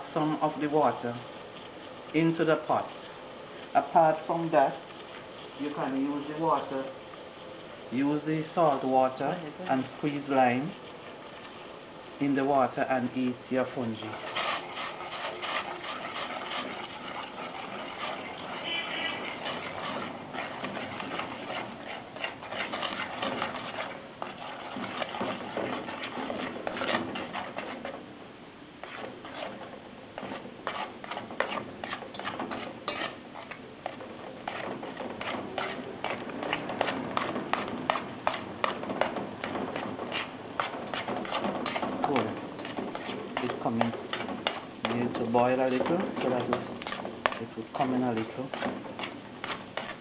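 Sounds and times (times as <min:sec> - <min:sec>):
utensil knocking and scraping pot: 0:08.6 - 0:28.2, 0:28.8 - 0:50.0.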